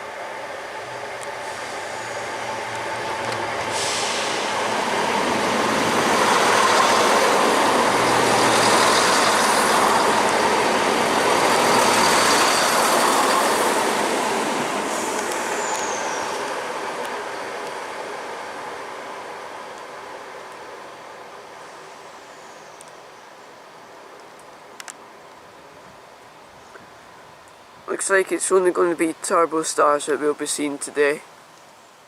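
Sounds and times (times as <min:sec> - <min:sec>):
diesel train engine and wheels: 0:00.0 - 0:31.6.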